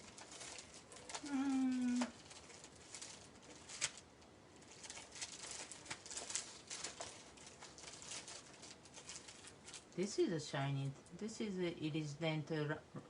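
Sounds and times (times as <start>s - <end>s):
plastic packaging rustling: 0.0s - 10.5s.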